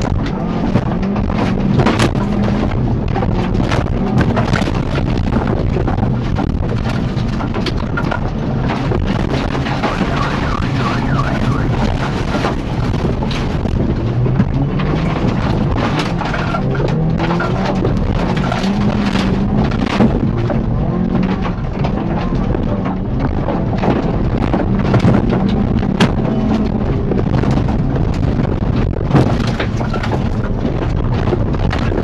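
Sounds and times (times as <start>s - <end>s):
bodywork knocks and rattles: 0.0s - 32.0s
car engine revving: 0.0s - 32.0s.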